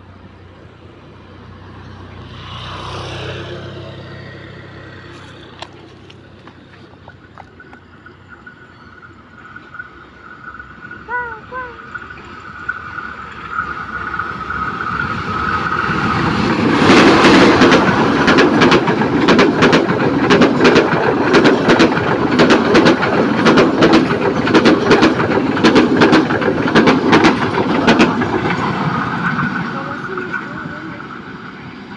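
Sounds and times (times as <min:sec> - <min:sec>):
train passing rumble: 0:00.0 - 0:31.9
wheels clicking over rail joints: 0:02.2 - 0:09.9, 0:11.9 - 0:31.4.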